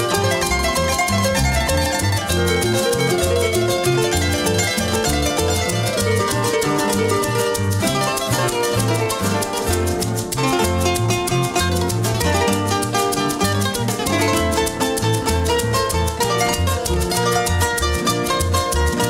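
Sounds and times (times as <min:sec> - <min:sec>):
bass: 0:00.0 - 0:19.0
guitar accompaniment: 0:00.0 - 0:19.0
harp plucking fast runs: 0:00.0 - 0:19.0.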